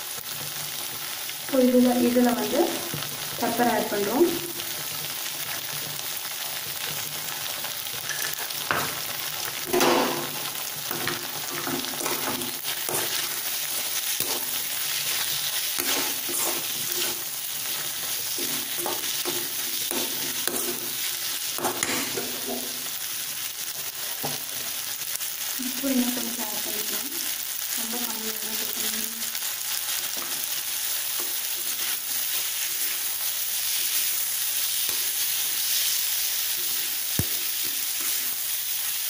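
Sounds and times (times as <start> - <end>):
vegetables sizzling in a pan: 0.0 - 39.0.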